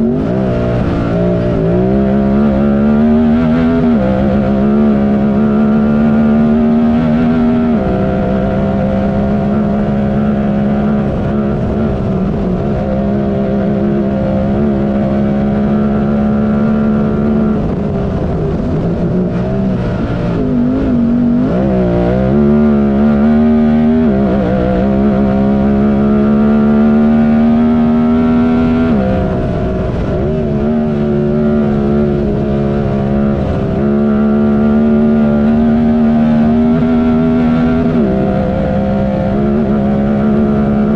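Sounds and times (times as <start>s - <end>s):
engine running at high revs: 0.0s - 40.9s.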